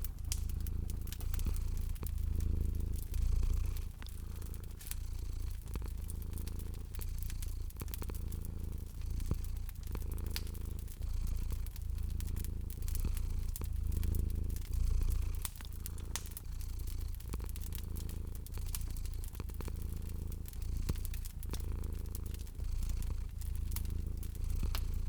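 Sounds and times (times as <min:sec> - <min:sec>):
cat purring: 0:00.0 - 0:25.0
wood fire crackling and popping: 0:00.0 - 0:25.0.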